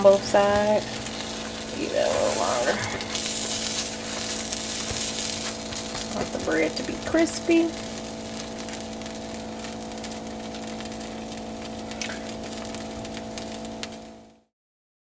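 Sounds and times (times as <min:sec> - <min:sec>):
bread sizzling in a skillet: 0:00.0 - 0:14.5
steady hum: 0:00.0 - 0:14.5.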